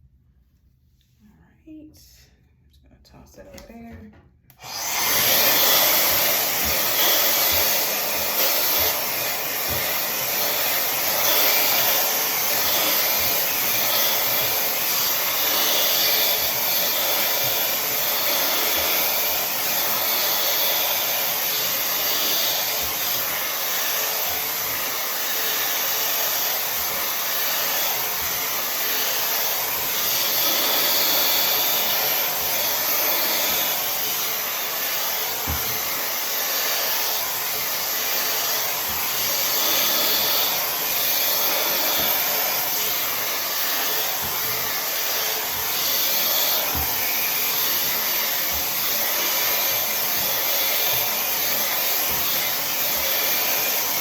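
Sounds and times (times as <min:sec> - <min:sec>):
hair dryer blowing: 0:03.4 - 0:54.0.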